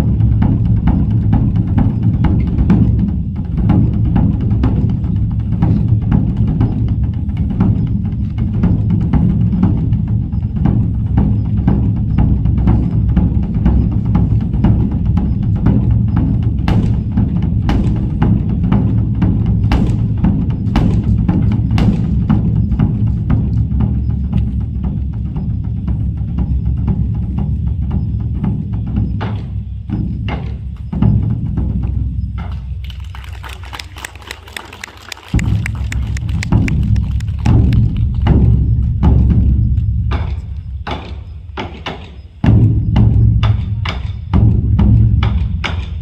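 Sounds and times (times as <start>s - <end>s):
music with drum beat and bass: 0.0s - 46.0s.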